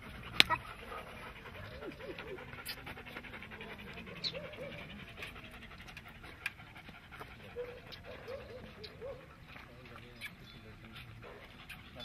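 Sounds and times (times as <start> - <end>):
dogs panting: 0.0 - 12.0.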